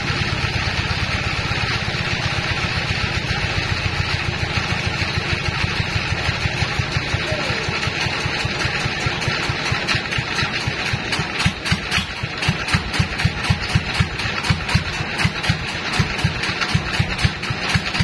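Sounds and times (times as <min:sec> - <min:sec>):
sawmill engine chugging: 0:00.0 - 0:18.0.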